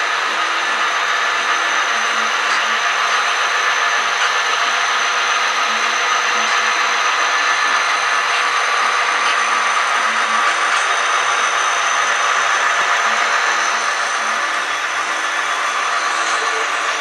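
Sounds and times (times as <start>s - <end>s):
model trains whirring on rails: 0.0s - 17.0s.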